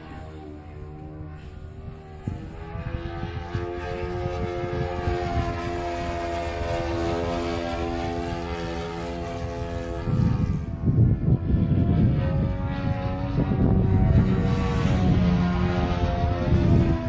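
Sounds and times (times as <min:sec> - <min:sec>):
model plane engine flying past: 0:00.0 - 0:17.0.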